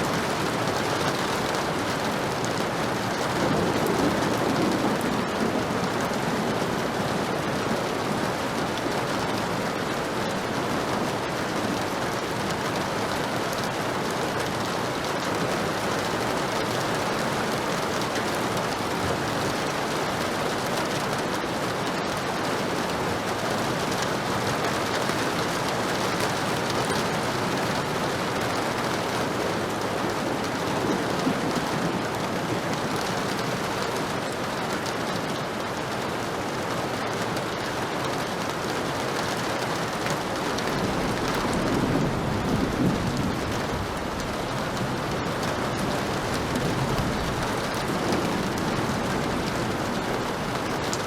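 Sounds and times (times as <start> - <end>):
heavy rain pattering: 0.0 - 51.0.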